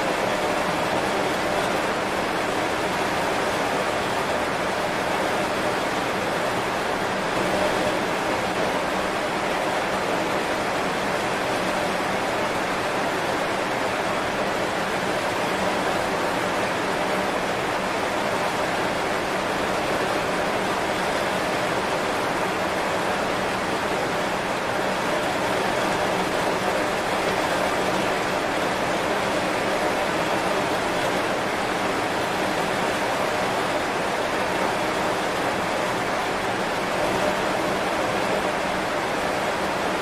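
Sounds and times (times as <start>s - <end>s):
heavy rain on leaves: 0.0s - 40.0s.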